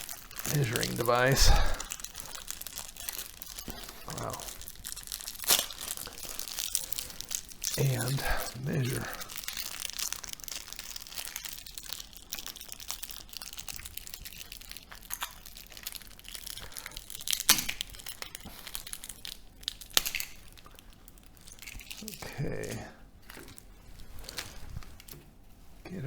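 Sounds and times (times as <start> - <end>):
crinkling of taped windings: 0.0 - 25.7.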